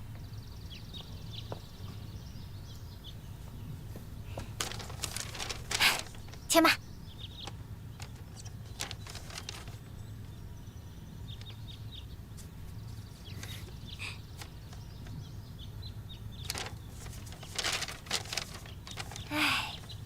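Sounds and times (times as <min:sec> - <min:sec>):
birds chirping faintly: 0:00.0 - 0:20.0
low ambient hum: 0:00.0 - 0:20.0.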